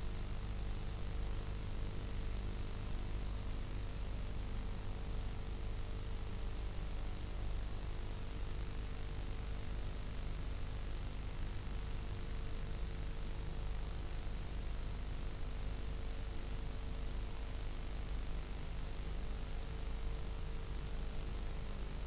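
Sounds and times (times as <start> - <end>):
steady tape hiss: 0.0 - 22.0.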